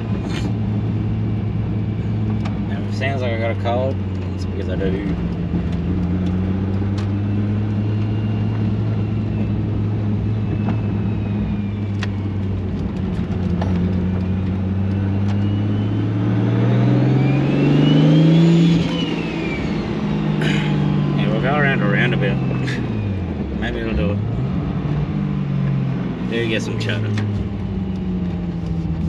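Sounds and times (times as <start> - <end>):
car engine from inside cabin: 0.0 - 29.0.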